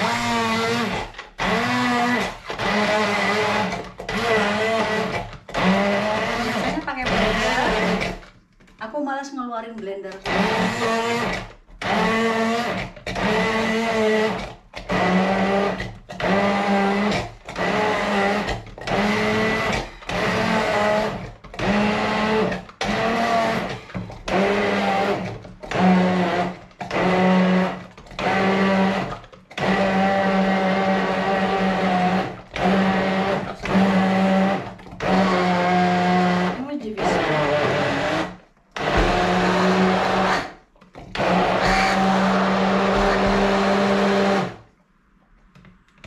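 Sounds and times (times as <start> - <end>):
electric blender grinding: 0.0 - 8.4, 10.1 - 44.7.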